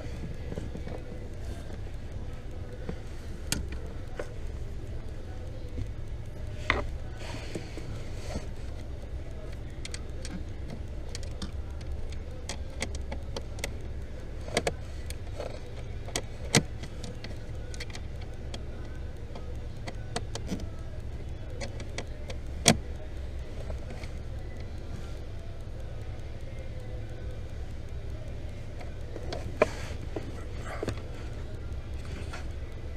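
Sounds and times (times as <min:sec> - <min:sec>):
car humming: 0:00.0 - 0:32.9
light clicks: 0:00.0 - 0:32.9.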